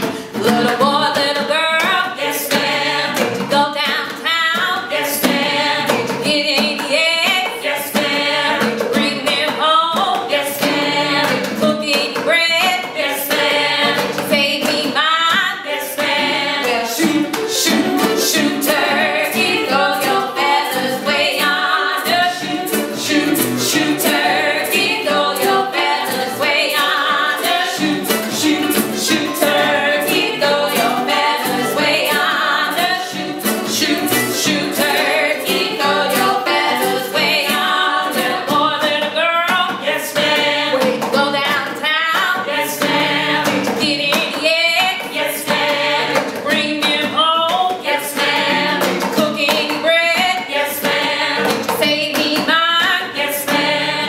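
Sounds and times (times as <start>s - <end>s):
group singing call-and-response song: 0.0s - 54.0s
strummed mandolin ukulele and guitar: 0.0s - 54.0s.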